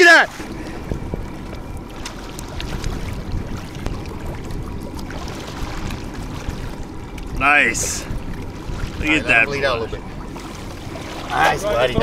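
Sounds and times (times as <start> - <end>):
water sloshing against boat: 0.0 - 12.0
steady low rumble: 0.3 - 12.0.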